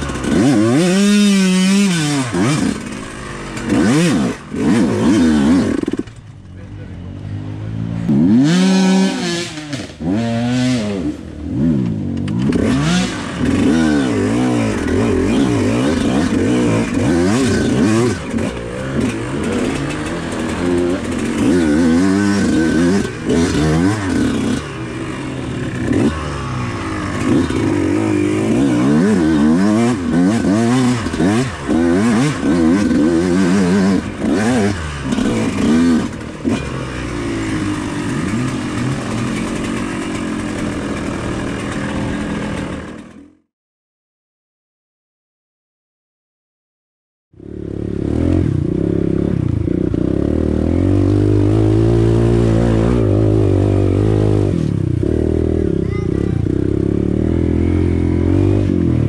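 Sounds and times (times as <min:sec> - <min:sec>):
dirt bike engine revving: 0:00.0 - 0:43.4, 0:47.4 - 0:59.0.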